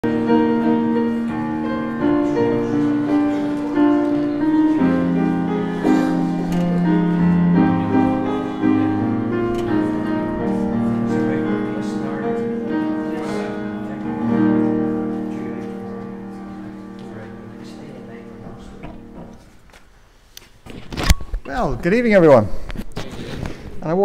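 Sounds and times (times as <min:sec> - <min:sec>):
slow sustained keyboard chords: 0:00.0 - 0:19.6.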